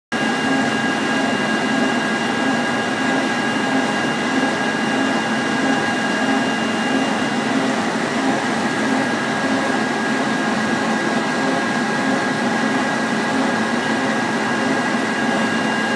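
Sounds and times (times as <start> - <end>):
high steady whines: 0.2 - 15.9
sorting machine whirring: 0.2 - 15.9.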